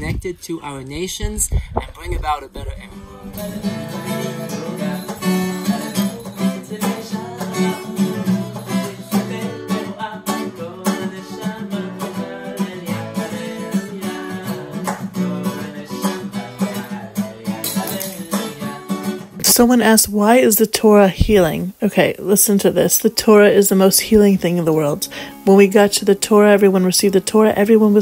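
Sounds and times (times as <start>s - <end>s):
acoustic guitar strumming: 2.9s - 28.0s.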